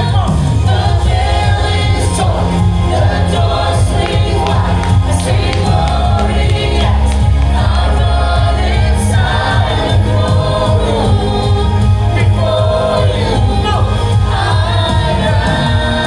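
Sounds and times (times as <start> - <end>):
choir singing a praise song: 0.0 - 16.0
steady bass: 0.0 - 16.0.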